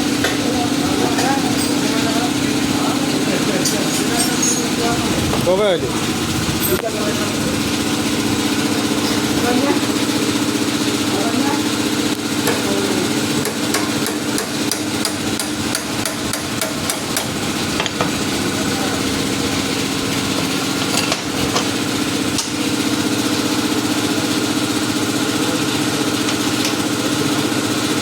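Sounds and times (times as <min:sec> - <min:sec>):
moped engine running: 0:00.0 - 0:28.0.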